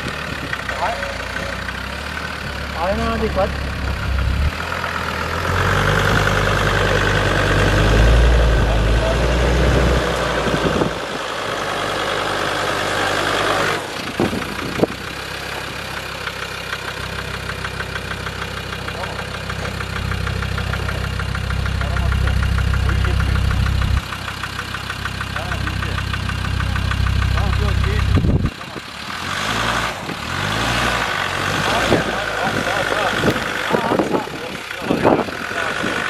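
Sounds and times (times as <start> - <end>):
engine running at low revs: 0.0 - 36.0.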